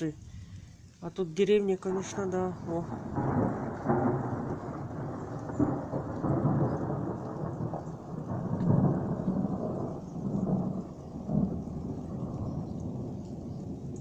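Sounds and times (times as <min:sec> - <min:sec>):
rain falling: 0:00.0 - 0:14.0
thunder rumbling: 0:01.4 - 0:14.0.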